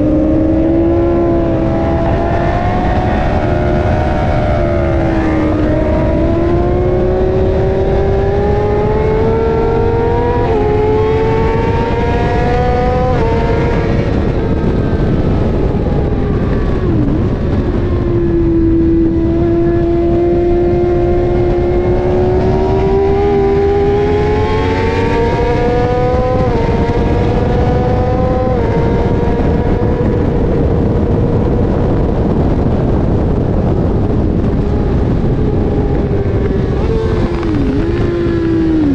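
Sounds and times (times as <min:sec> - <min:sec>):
motorcycle engine revving: 0:00.0 - 0:38.9
wind rush on microphone: 0:00.0 - 0:38.9.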